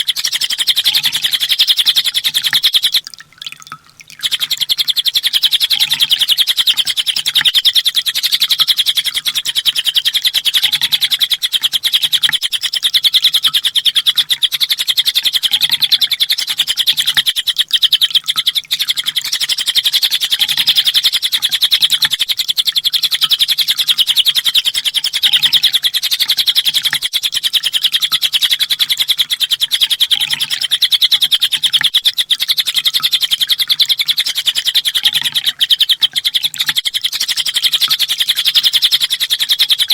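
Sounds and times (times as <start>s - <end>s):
bird singing high-pitched trill: 0.0s - 39.9s.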